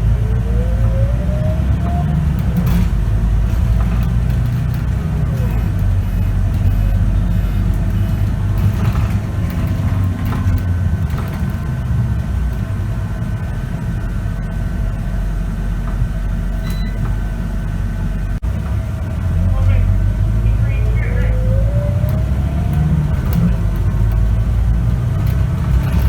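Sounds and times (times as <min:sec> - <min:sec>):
bus diesel engine rumbling: 0:00.0 - 0:26.0.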